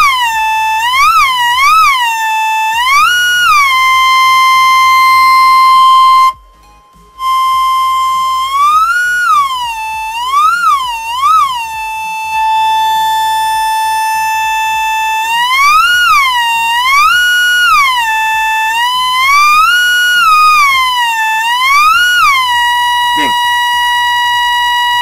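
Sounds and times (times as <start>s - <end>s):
buzzy electronic tone melody: 0.0s - 25.0s.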